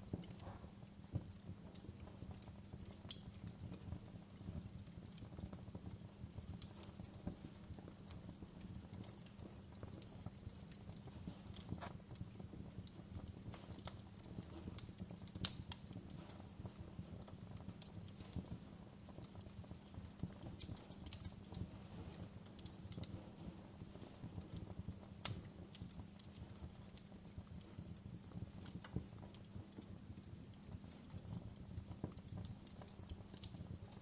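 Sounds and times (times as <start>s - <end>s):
fire crackling: 0.0s - 34.0s.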